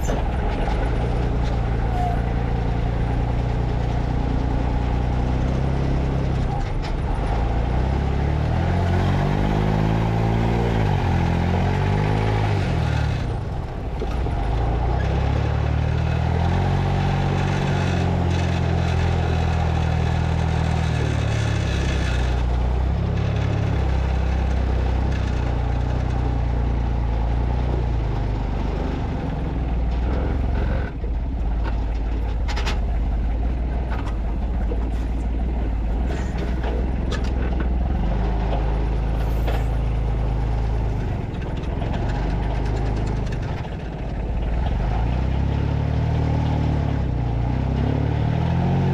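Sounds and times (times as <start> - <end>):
vehicle engine running under load: 0.0 - 48.9.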